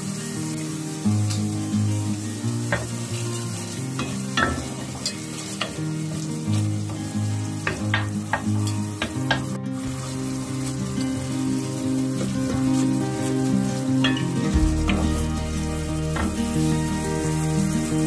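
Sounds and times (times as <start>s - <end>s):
sauce sizzling and bubbling: 0.0s - 18.0s.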